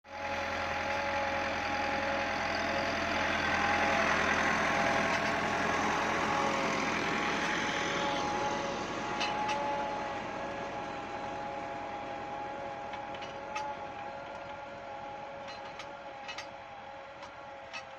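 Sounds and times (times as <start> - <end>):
tractor diesel engine running: 0.0 - 17.9
steady whine: 0.1 - 17.9.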